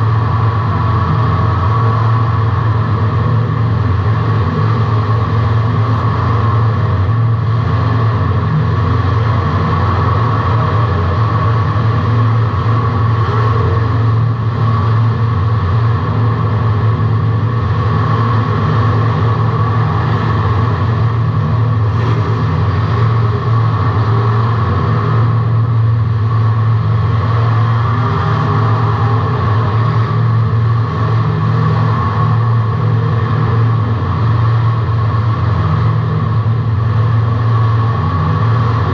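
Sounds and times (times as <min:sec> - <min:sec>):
race car engine from cabin: 0:00.0 - 0:38.9.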